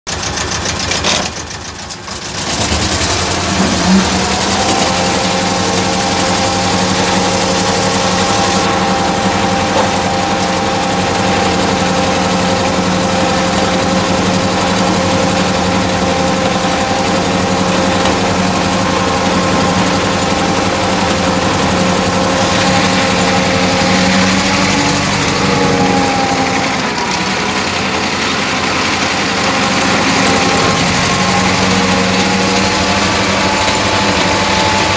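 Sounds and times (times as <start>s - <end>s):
tractor engine droning: 0.1s - 34.9s.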